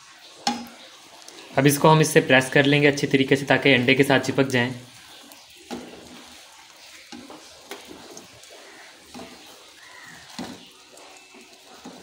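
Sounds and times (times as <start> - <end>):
faint egg sizzling: 0.0 - 12.0.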